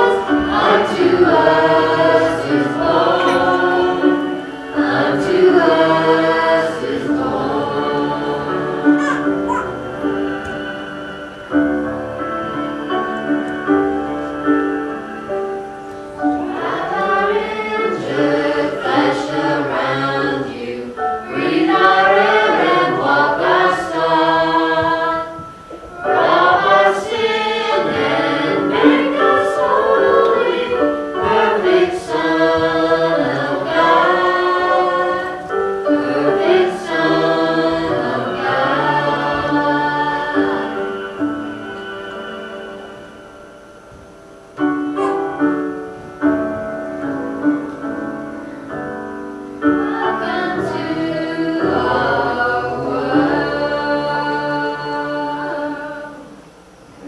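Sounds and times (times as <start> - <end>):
praise team singing in chorus: 0.0 - 13.8, 16.2 - 43.4, 49.6 - 56.6.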